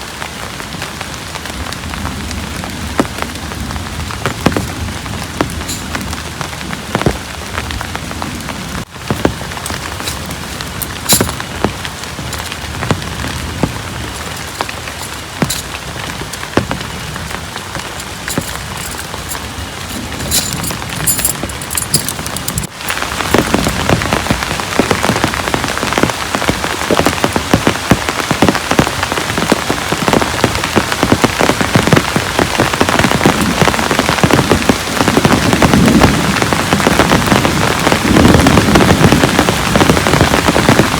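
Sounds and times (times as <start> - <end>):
heavy rain falling: 0.0 - 40.9
raindrops striking a surface: 0.0 - 40.9.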